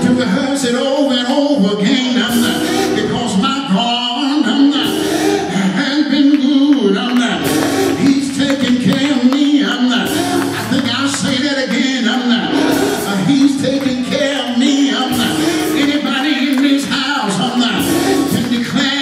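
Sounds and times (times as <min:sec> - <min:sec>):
man singing: 0:00.0 - 0:19.0
church music: 0:01.9 - 0:19.0.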